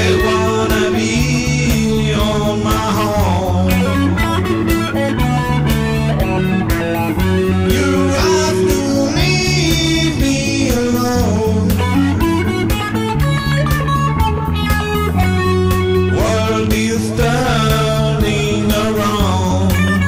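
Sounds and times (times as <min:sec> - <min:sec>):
instrumental rock music: 0:00.0 - 0:20.0.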